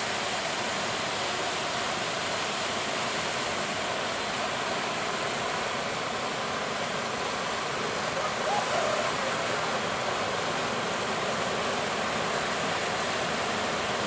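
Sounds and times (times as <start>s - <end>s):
ocean surf roaring: 0.0s - 14.0s.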